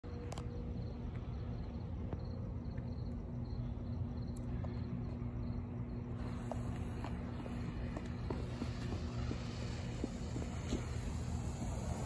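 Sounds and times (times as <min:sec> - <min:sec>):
cricket chirps: 0:00.0 - 0:12.0
low hum and rumble: 0:00.0 - 0:12.0.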